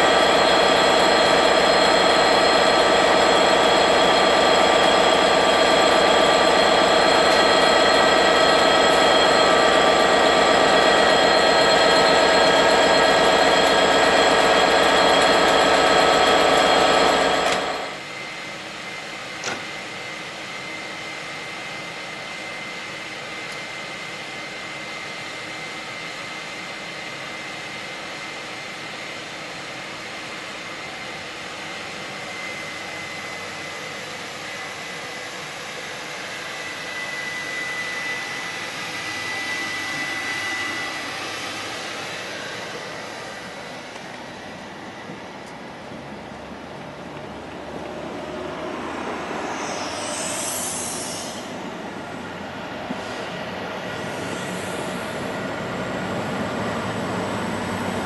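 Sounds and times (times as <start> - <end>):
diesel locomotive engine idling: 0.0 - 22.5, 29.2 - 58.0.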